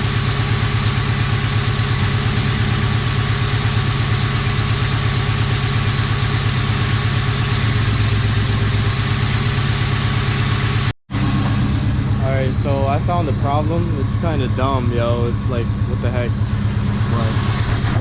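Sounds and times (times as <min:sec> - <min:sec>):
car engine idling roughly: 0:00.0 - 0:18.0.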